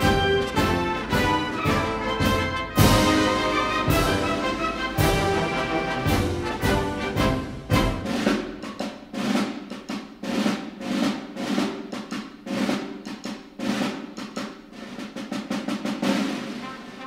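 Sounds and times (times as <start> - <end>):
snare drums playing: 0.0 - 17.0.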